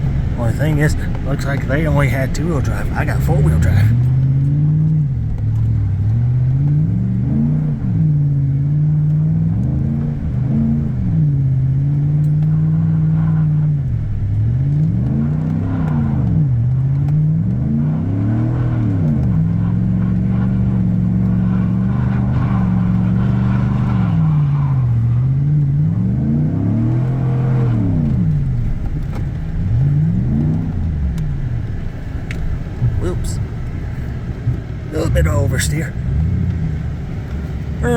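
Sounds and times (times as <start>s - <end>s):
vehicle engine revving: 0.0s - 37.9s.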